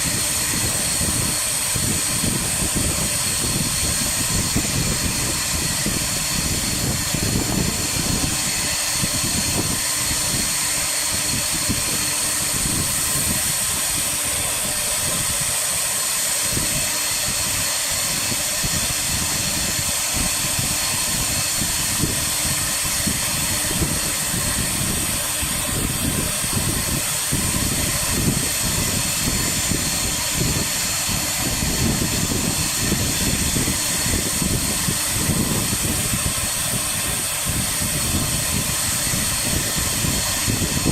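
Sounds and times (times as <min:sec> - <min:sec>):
low rumble of cutting: 0:00.0 - 0:40.9
router spindle whine: 0:00.0 - 0:40.9.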